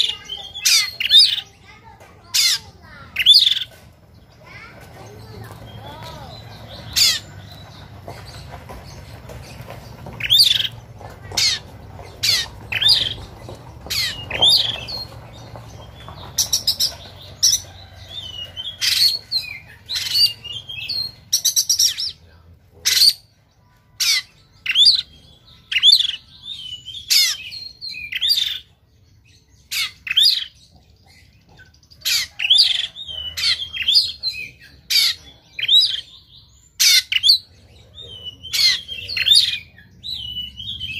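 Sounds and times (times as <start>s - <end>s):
bird singing harsh song: 0.0s - 40.9s.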